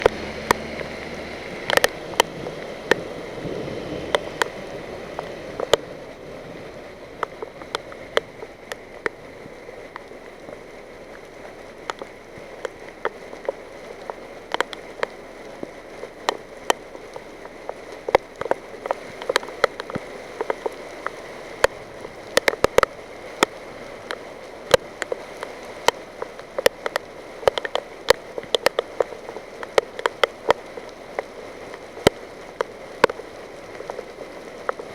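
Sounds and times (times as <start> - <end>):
rain hissing: 0.0 - 34.9
raindrops tapping hard surface: 0.0 - 34.9.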